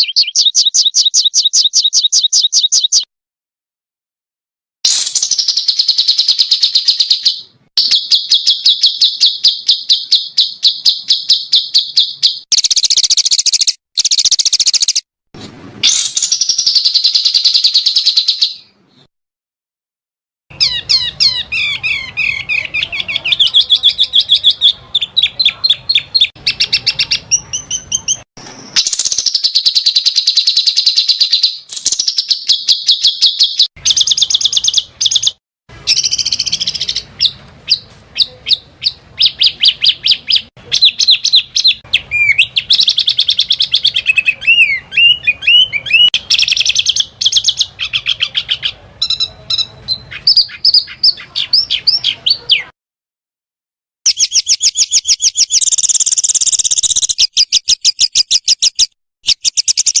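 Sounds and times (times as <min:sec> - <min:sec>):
songbirds chirping and trilling: 0:00.0 - 0:03.1, 0:04.9 - 0:19.1, 0:20.5 - 0:52.7.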